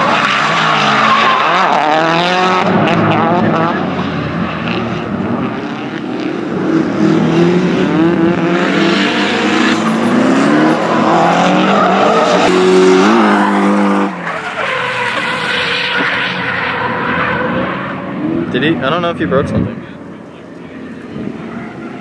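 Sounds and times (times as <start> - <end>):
car engines revving: 0.0 - 22.0
tires skidding: 0.0 - 22.0.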